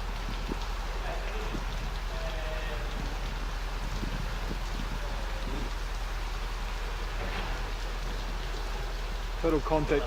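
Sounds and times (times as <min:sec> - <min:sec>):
water spraying on truck: 0:00.0 - 0:10.0.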